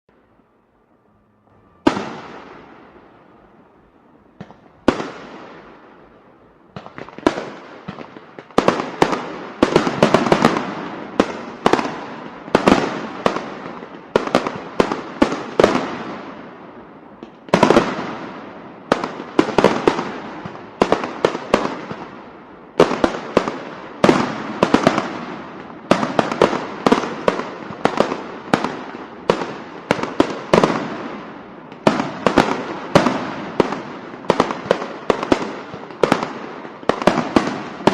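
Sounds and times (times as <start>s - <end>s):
firecrackers banging with echo: 1.3s - 37.9s.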